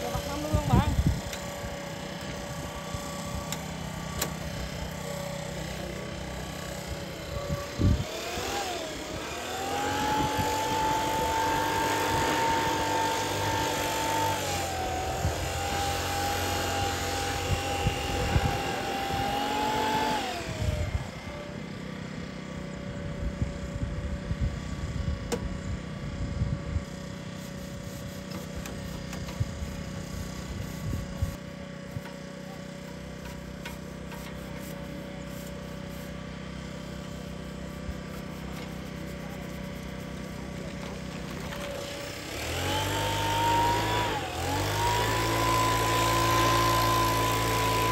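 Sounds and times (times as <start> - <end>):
cordless power tool whining: 0.0 - 47.9
harvester engine running: 0.0 - 47.9.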